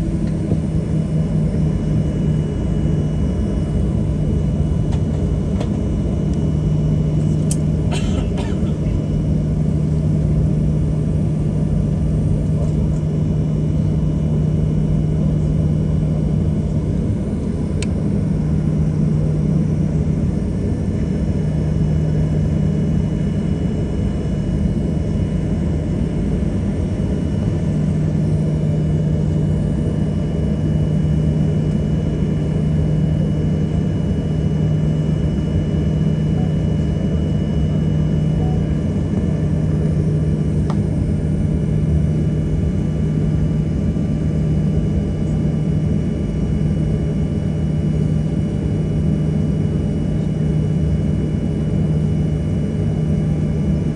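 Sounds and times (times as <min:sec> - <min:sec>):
airliner cabin drone: 0:00.0 - 0:53.9.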